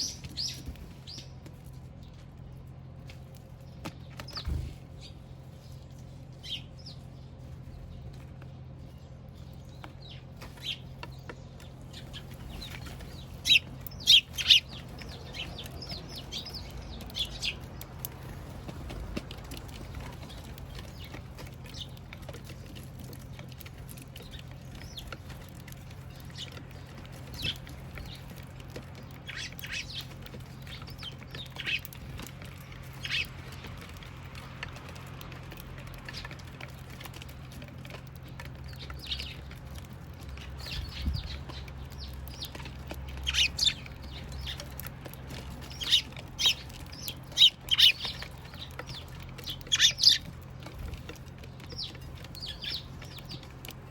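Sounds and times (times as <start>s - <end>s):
sparrows chirping: 0.0s - 53.9s
steady low hum: 0.0s - 53.9s.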